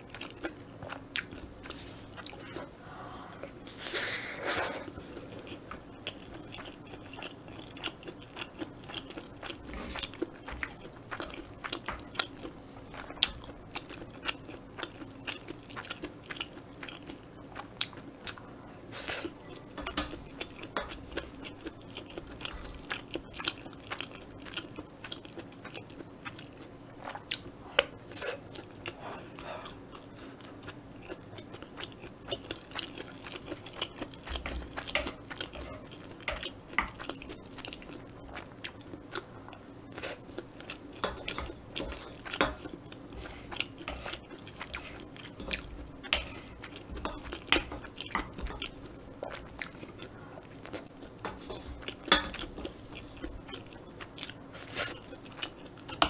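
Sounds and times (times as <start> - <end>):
chewing with wet smacking: 0.0 - 2.7, 4.8 - 18.6, 19.2 - 56.0.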